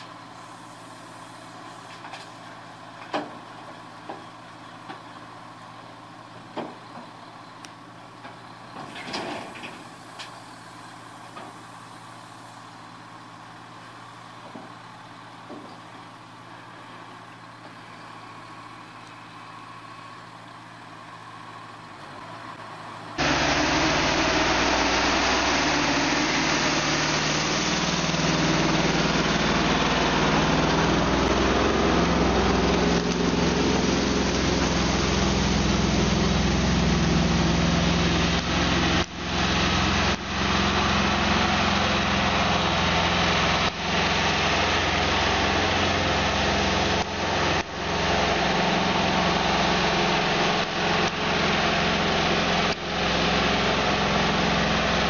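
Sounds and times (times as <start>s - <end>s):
truck engine running under load: 0.0s - 55.0s.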